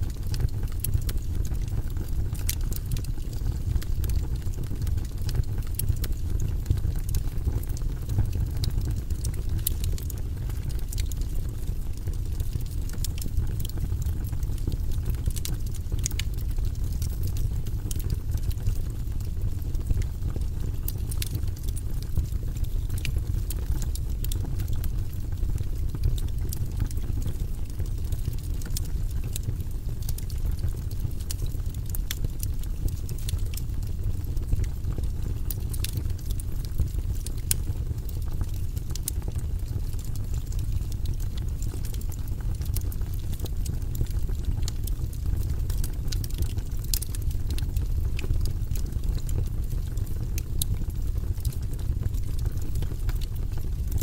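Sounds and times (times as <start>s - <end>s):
burning logs crackling and popping: 0.0s - 54.0s
fire low rumble: 0.0s - 54.0s.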